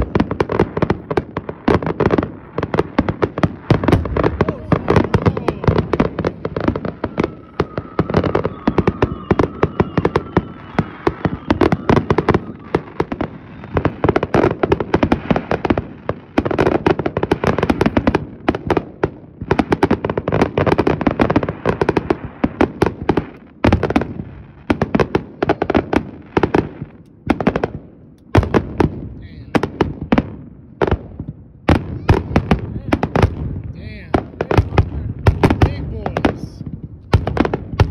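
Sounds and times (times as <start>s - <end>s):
firework barrage bangs and crackles: 0.0s - 37.9s.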